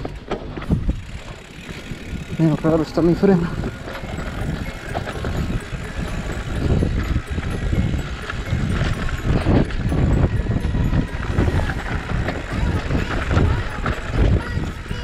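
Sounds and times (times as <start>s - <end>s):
mountain bike clattering downhill: 0.0s - 15.0s.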